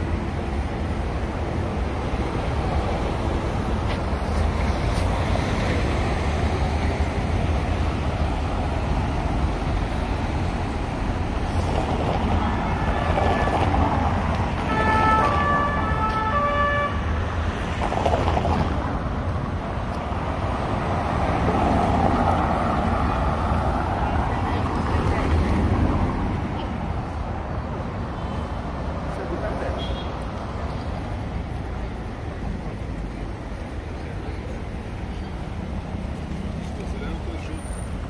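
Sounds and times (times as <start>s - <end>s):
cars driving over cobblestones: 0.0s - 38.0s.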